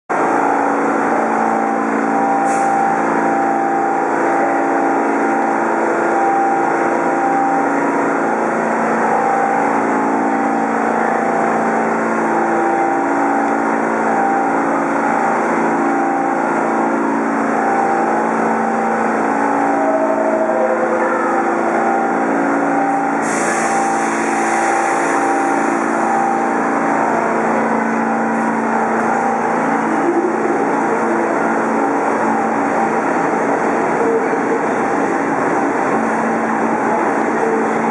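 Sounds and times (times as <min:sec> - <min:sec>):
subway train equipment humming: 0:00.1 - 0:37.9.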